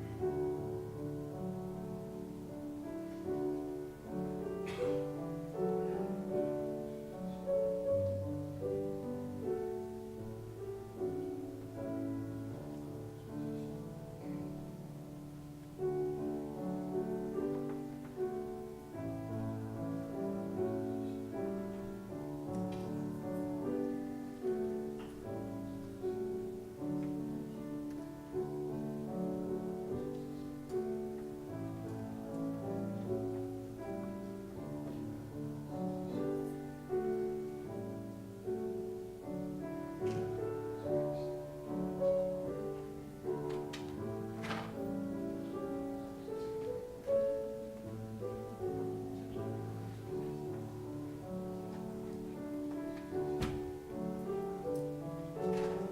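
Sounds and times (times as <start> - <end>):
slow piano chords: 0.0 - 55.9.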